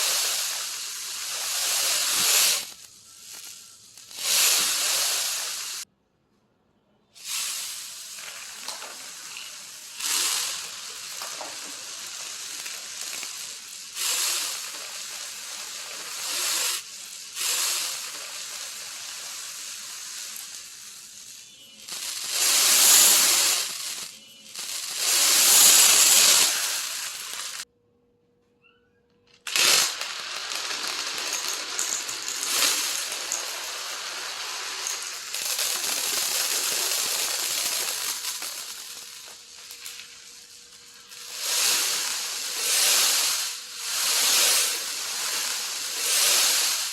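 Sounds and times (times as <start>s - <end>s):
beads and marbles pouring: 0.0s - 5.9s, 7.2s - 27.7s, 29.5s - 46.9s.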